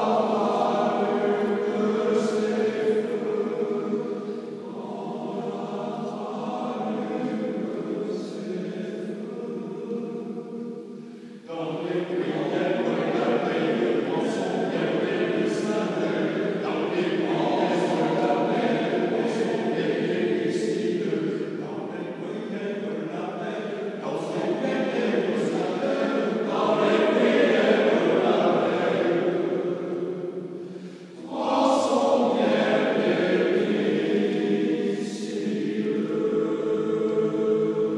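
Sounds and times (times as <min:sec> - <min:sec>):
choir singing unaccompanied: 0:00.0 - 0:37.9.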